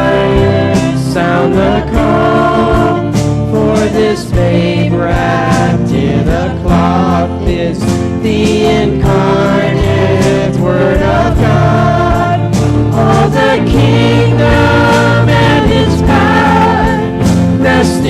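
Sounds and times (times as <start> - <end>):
group singing a worship song: 0.0 - 18.0
instrumental accompaniment: 0.0 - 18.0.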